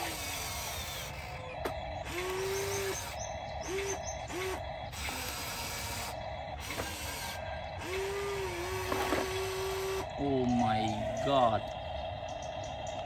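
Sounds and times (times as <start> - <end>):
toy electric motors whining: 0.0 - 13.0.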